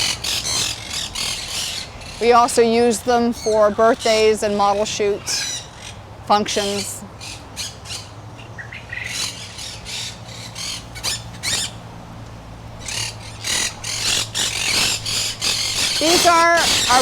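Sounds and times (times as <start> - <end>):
parrots squawking: 0.0 - 2.5, 3.3 - 17.0
steady low hum: 0.0 - 17.0.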